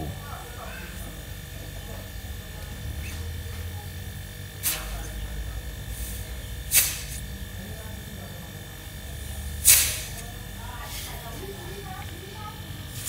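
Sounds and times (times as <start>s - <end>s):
compressor humming: 0.0s - 13.0s.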